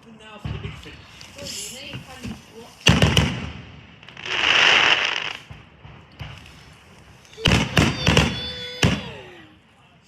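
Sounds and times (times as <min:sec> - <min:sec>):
fireworks bangs: 0:00.2 - 0:09.4
fireworks crackling hiss: 0:00.5 - 0:09.7.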